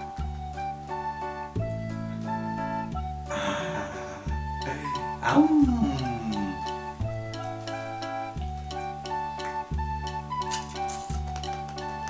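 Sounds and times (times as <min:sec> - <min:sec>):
cheerful instrumental music: 0:00.0 - 0:12.0.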